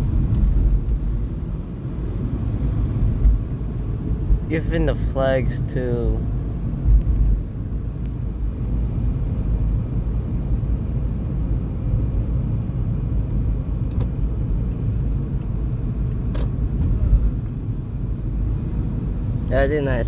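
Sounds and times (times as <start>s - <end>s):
car interior road noise: 0.0s - 20.0s.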